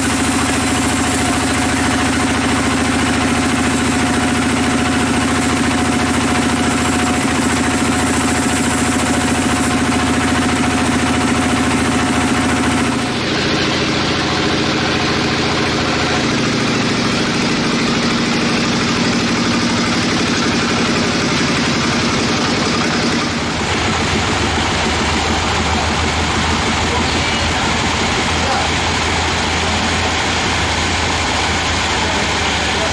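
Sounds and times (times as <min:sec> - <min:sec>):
band sawmill machinery running: 0:00.0 - 0:32.9.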